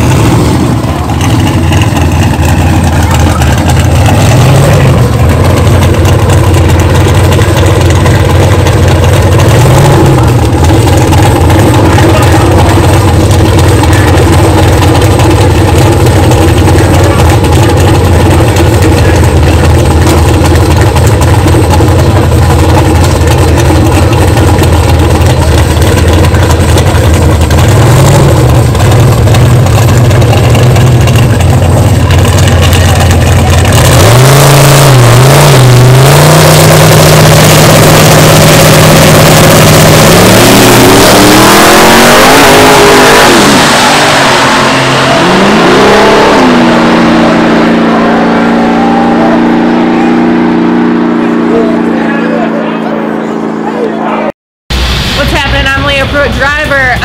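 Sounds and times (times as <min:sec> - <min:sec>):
cars accelerating hard: 0:00.0 - 0:54.3
drag racing cars idling and revving: 0:00.0 - 0:57.0.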